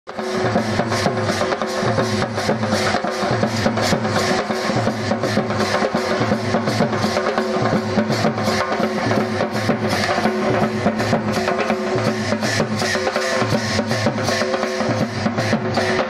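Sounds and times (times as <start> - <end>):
small hand cymbals: 0.1 - 16.0
stick-beaten drum: 0.1 - 16.0.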